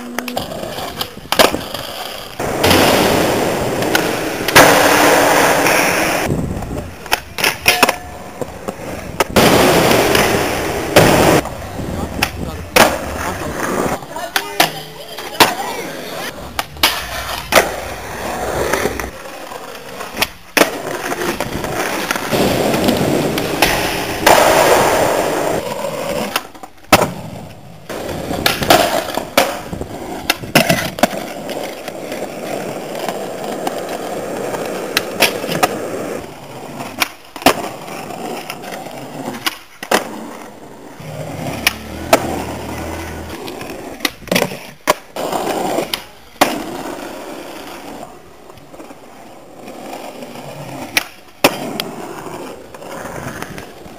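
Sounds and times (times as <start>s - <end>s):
skateboard clacking on ground: 0.0s - 53.9s
skateboard wheels rolling: 0.0s - 53.9s.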